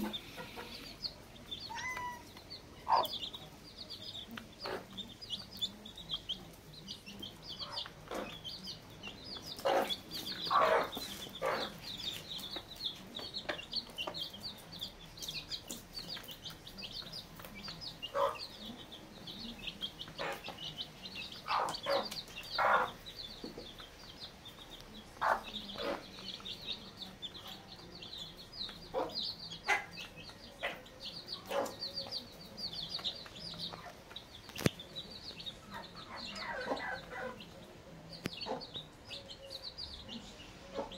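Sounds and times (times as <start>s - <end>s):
chicks peeping: 0.0s - 40.9s
hen clucking: 0.0s - 40.9s.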